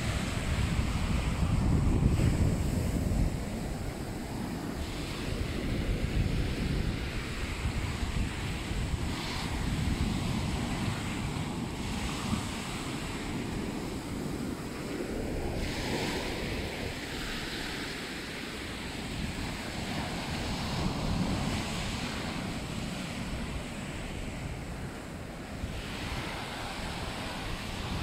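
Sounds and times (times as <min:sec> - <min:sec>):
small waves breaking on sand: 0:00.0 - 0:28.0
wind rumble on microphone: 0:00.0 - 0:28.0.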